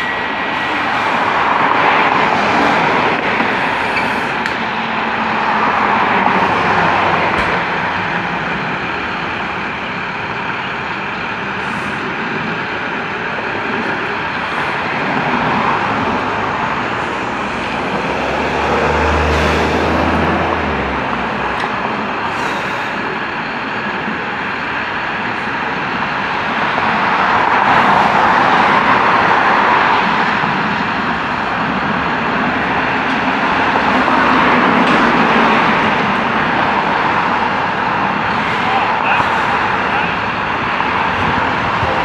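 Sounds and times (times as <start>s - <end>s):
truck engines running: 0.0s - 42.0s.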